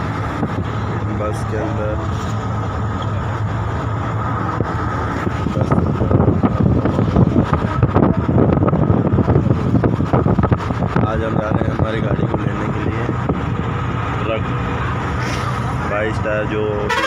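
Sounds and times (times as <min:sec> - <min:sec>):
wind buffeting microphone: 0:00.0 - 0:16.3
bus rumbling and humming: 0:00.0 - 0:17.0.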